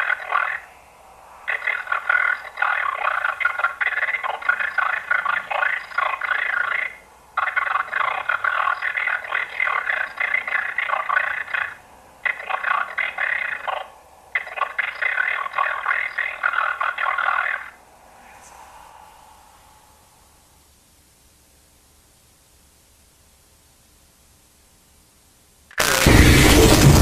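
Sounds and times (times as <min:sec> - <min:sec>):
distorted crackling voice: 0:00.0 - 0:20.4, 0:25.7 - 0:27.0.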